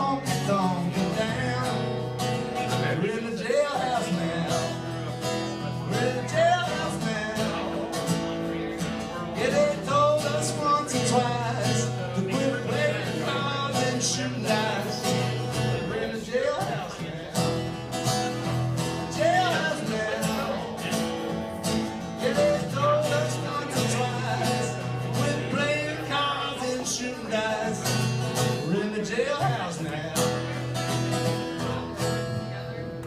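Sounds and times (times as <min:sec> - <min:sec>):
man singing: 0:00.0 - 0:32.2
acoustic guitar strumming: 0:00.0 - 0:33.0.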